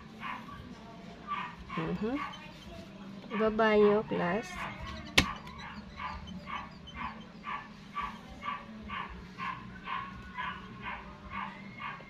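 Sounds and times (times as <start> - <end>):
dog barking: 0.2 - 0.7, 1.3 - 2.5, 3.3 - 3.7, 4.4 - 12.0.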